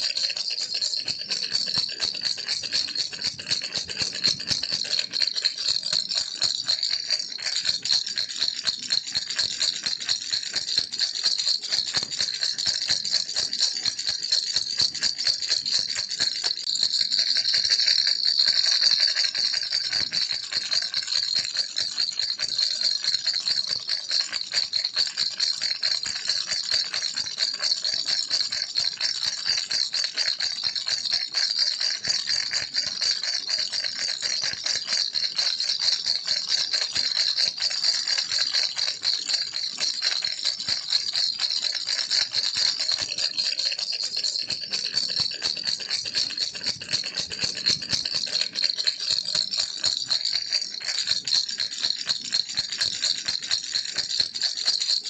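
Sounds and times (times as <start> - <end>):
baby rattle shaking: 0.0 - 28.6, 30.6 - 53.0.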